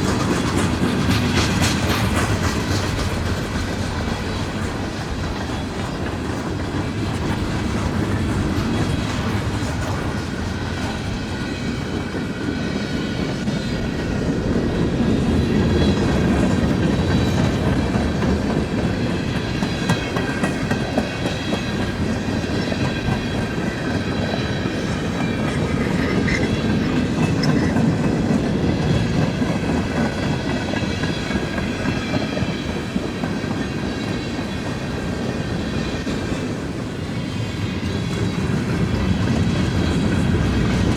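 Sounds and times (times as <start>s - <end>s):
high tones from wheels on rails: 0.0s - 40.9s
train wheels clattering: 0.0s - 40.9s.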